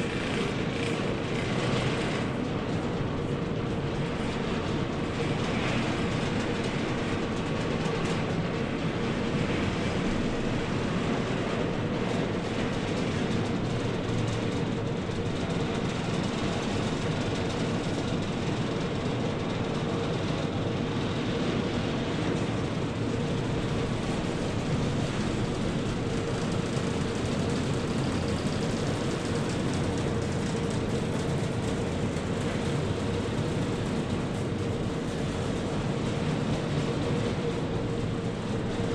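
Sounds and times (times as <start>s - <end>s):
conveyor belt lift rumbling: 0.0s - 38.9s.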